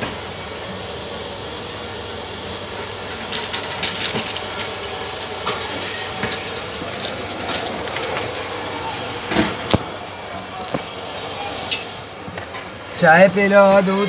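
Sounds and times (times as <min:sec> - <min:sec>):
train rumble and wheel clatter: 0:00.0 - 0:14.0.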